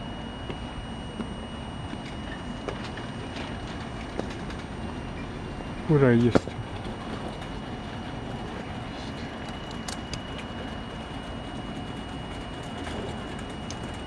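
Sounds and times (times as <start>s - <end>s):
electric trains humming: 0.0s - 14.0s
thin high whine: 0.0s - 14.0s.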